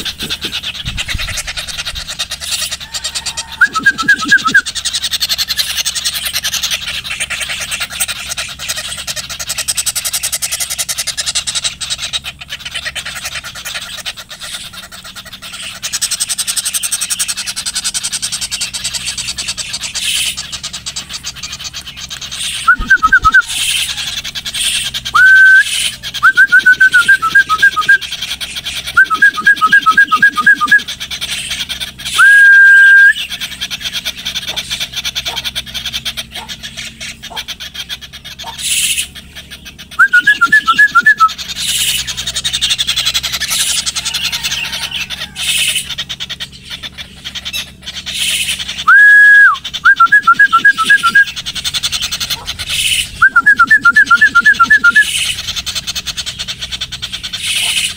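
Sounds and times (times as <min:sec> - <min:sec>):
loud whistled calls: 0:00.0 - 0:57.9.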